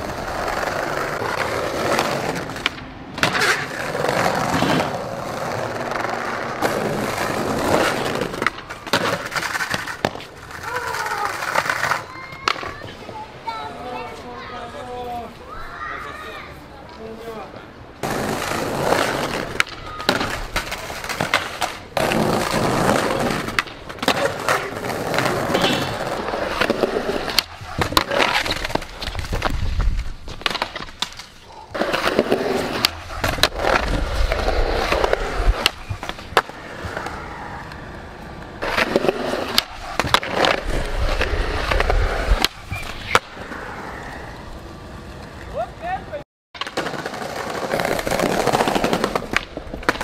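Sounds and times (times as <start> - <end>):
skateboard clacking on ground: 0.0 - 14.2, 18.0 - 45.7, 46.6 - 50.0
skateboard wheels rolling on pavement: 0.0 - 50.0.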